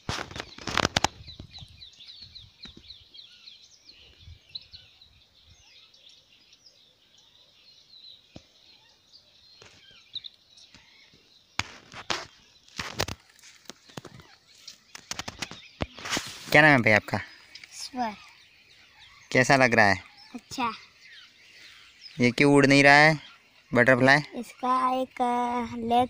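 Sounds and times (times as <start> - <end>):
open-air background: 0.0 - 26.0
small birds chirping: 0.0 - 26.0.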